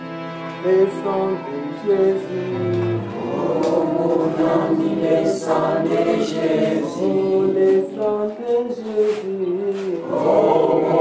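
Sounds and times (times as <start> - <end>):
congregation singing a hymn: 1.4 - 11.0.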